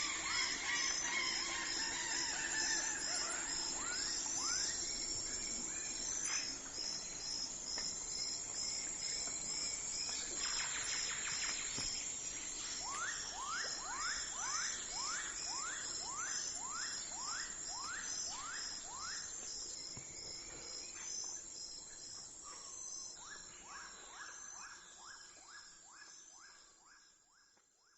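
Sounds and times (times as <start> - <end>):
insects chirping trill: 0.0 - 26.6.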